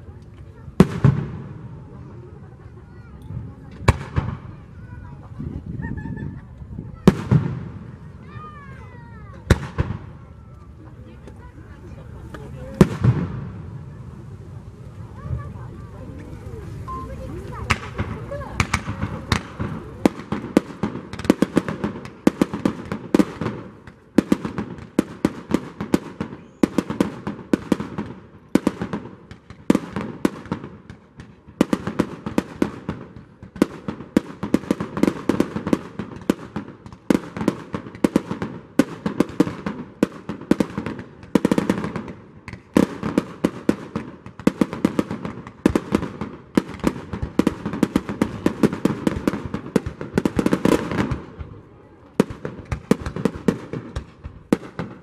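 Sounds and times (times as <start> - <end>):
fireworks bursting: 0.1 - 55.0.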